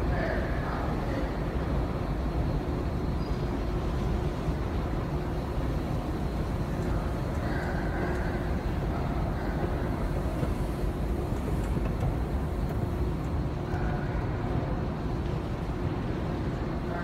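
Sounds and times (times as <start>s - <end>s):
faint steady hum: 0.0s - 17.0s
low rumble of station noise: 0.0s - 17.0s.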